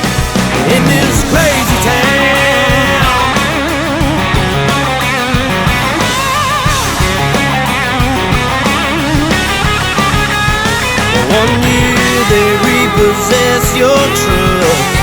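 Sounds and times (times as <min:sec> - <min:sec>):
electric guitar lead line: 0:00.0 - 0:15.0
steady drum beat: 0:00.0 - 0:15.0.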